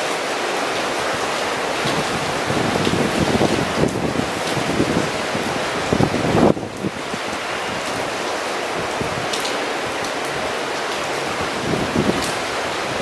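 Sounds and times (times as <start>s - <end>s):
heavy rain downpour: 0.0s - 13.0s
wind gusts on microphone: 0.8s - 13.0s.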